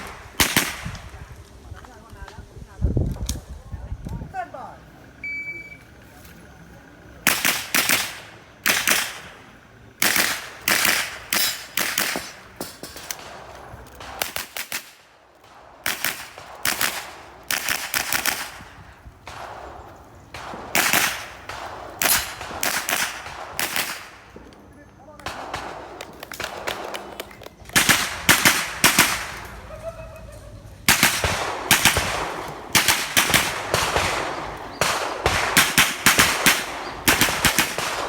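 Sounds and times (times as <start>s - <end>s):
rifle shots cracking: 0.0s - 1.3s, 7.2s - 29.7s, 30.8s - 38.0s.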